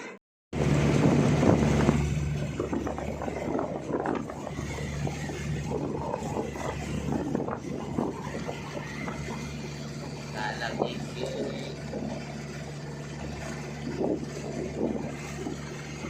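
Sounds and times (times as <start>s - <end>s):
boat engine humming: 0.0s - 16.0s
wind: 0.0s - 16.0s
water rushing and splashing: 0.6s - 16.0s.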